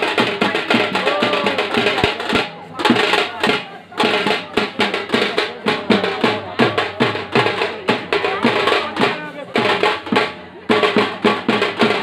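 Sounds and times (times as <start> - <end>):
drums playing fast beat: 0.0 - 12.0.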